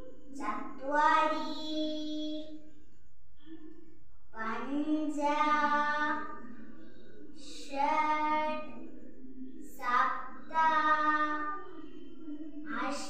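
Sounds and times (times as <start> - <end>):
child singing unaccompanied: 0.0 - 2.7, 4.4 - 9.0, 9.6 - 13.0.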